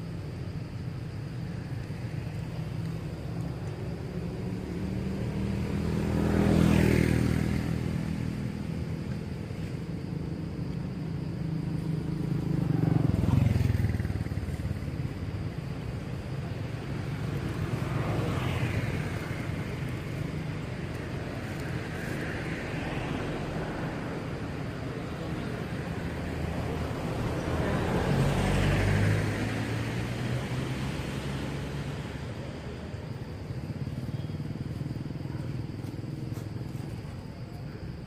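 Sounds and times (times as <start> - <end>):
vehicles passing on road: 0.0 - 38.0.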